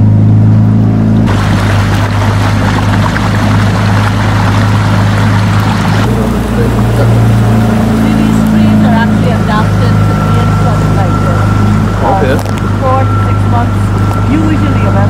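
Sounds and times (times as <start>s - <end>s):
motorboat engine running: 0.0s - 15.0s
water rushing past hull: 1.0s - 15.0s.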